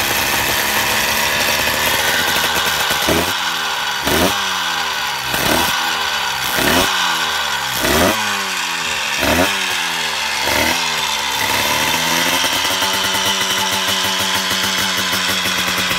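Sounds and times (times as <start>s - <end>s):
two-stroke engine revving: 0.0s - 15.9s.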